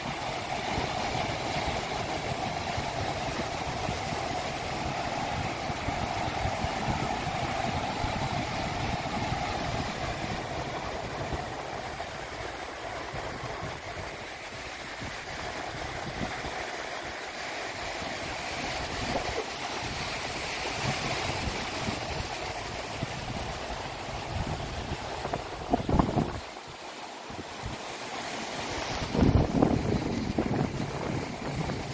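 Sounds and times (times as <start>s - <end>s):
ocean waves washing in: 0.0s - 31.9s
wind blowing across microphone: 0.0s - 31.9s.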